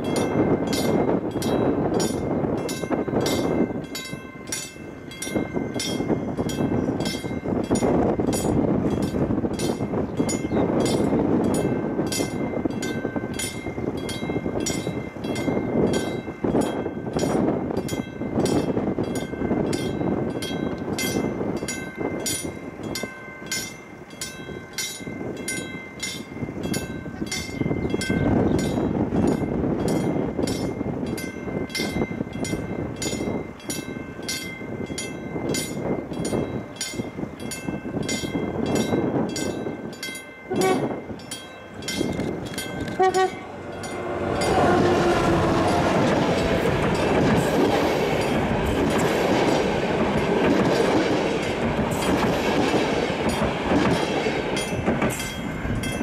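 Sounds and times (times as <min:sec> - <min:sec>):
locomotive engine and wheel rumble: 0:00.0 - 0:56.0.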